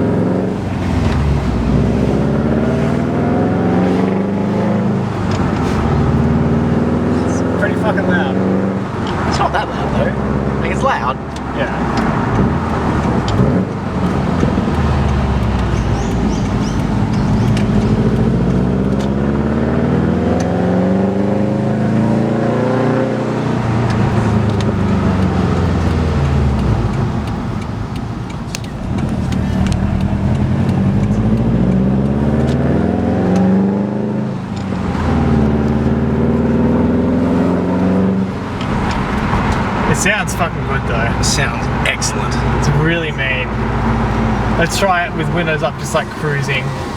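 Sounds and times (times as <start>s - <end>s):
car engine accelerating through gears: 0.0s - 46.9s.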